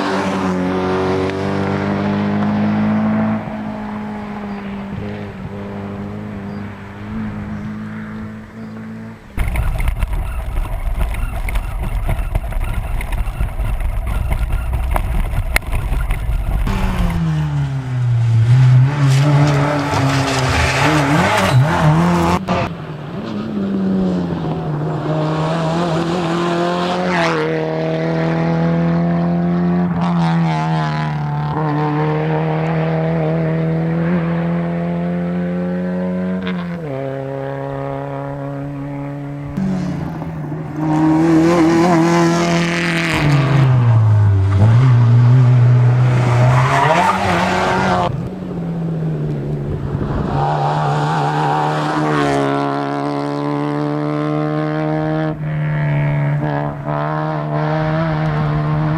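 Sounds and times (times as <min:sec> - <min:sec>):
rally car engine revving: 0:00.0 - 0:58.9.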